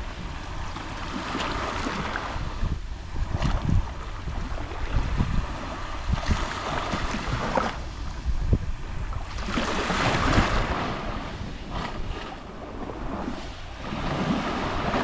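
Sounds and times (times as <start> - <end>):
small waves lapping on shore: 0.0 - 15.0
wind buffeting microphone: 0.0 - 15.0.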